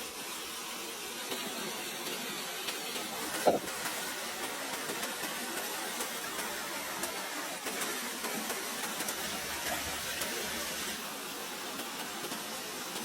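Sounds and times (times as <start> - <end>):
food cooking over open fire: 0.0 - 13.0.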